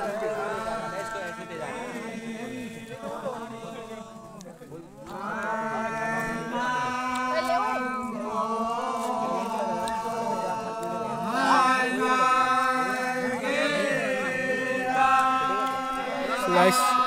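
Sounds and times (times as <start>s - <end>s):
men singing together: 0.0s - 17.0s.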